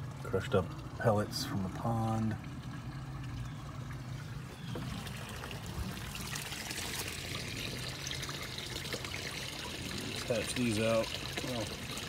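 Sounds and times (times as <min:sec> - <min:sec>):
water pouring into tank: 0:00.0 - 0:12.0.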